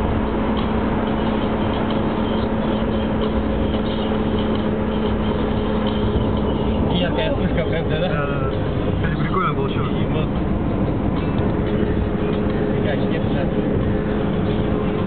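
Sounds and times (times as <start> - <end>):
car tyre and engine noise: 0.0 - 15.0.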